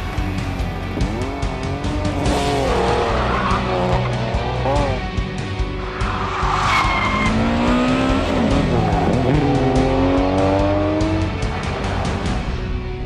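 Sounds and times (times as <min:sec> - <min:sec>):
background music: 0:00.0 - 0:13.0
car engines revving: 0:00.0 - 0:13.0.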